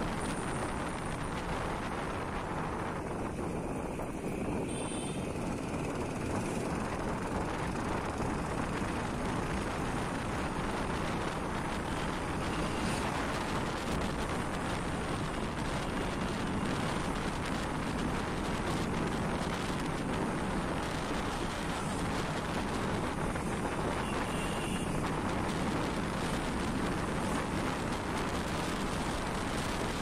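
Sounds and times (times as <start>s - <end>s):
motorbike engine and road noise: 0.0s - 30.0s
wind on microphone: 0.0s - 30.0s.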